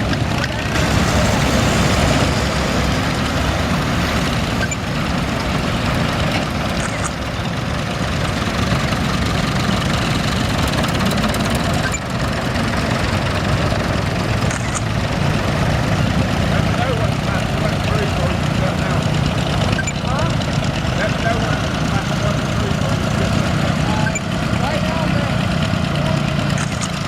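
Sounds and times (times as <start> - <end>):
tractor engines running: 0.0 - 27.0.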